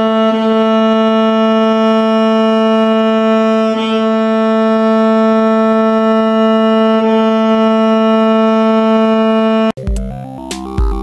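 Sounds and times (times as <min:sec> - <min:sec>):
cello bowed long note: 0:00.0 - 0:09.8.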